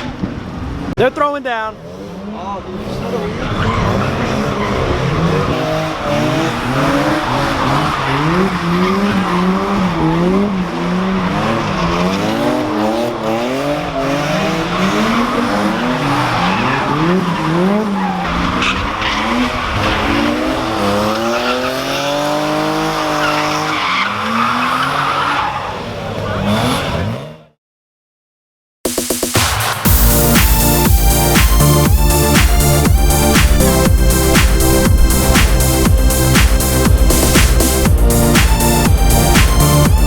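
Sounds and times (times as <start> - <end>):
car engine revving: 0.0 - 27.3, 29.0 - 40.0.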